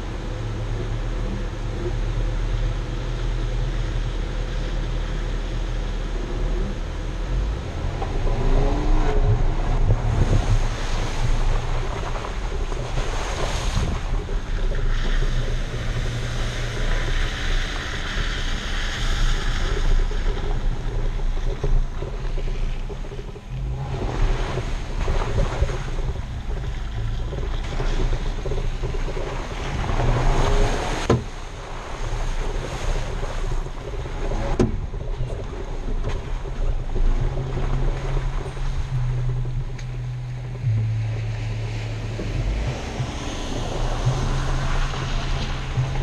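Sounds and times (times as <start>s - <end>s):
engine drone: 0.0s - 46.0s
tyres on dirt and gravel: 6.0s - 46.0s
wind buffeting microphone: 6.1s - 46.0s.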